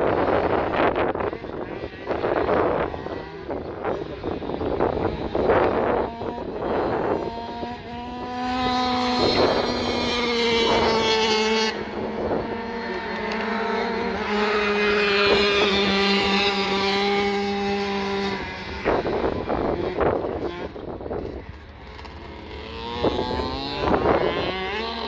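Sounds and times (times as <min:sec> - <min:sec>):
dirt bike engines revving high: 0:00.0 - 0:25.0.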